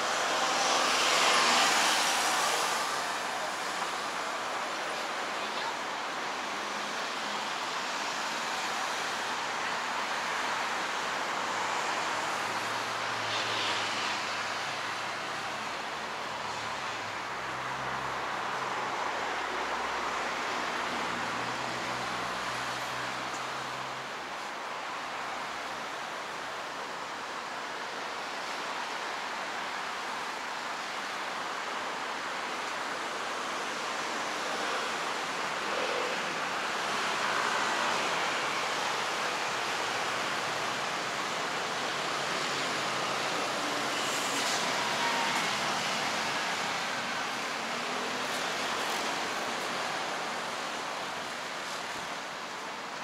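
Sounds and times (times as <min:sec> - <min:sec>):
passing cars: 0:00.0 - 0:53.0
road traffic hiss: 0:00.0 - 0:53.0.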